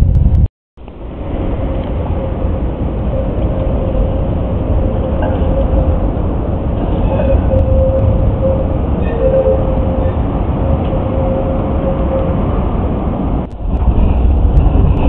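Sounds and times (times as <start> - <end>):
tram humming and rumbling: 0.0 - 15.0.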